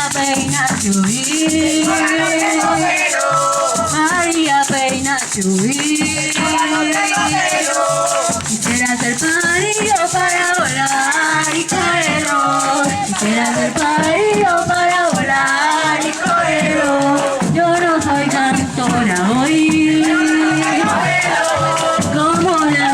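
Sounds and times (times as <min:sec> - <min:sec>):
person singing: 0:00.0 - 0:22.9
shaker rattling: 0:00.0 - 0:22.9.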